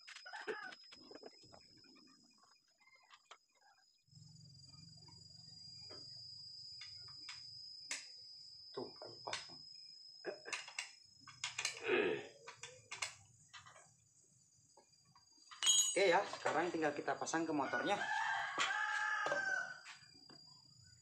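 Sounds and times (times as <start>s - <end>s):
steady high-pitched whine: 0.0s - 21.0s.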